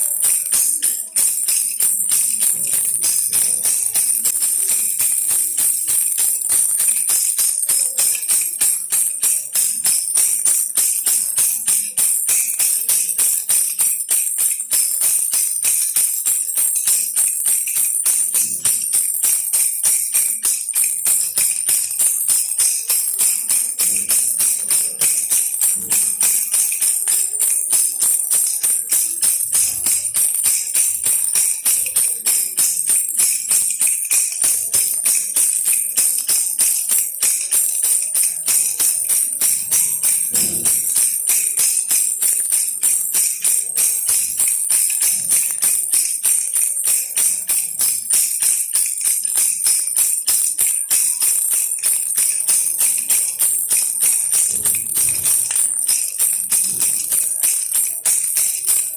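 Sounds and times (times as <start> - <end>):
baby rattle shaken: 0.0 - 58.9.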